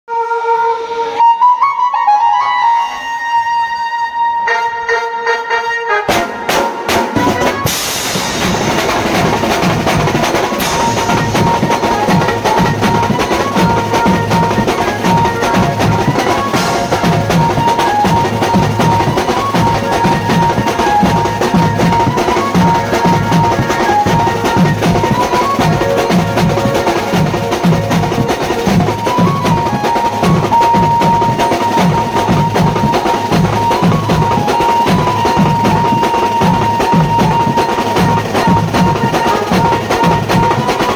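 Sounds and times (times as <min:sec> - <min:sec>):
band melody line: 0:00.1 - 0:40.9
fast drum beat: 0:06.1 - 0:40.9.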